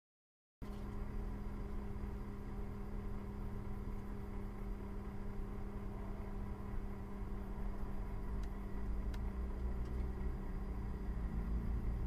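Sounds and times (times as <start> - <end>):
light aircraft engine running: 0.6 - 12.0.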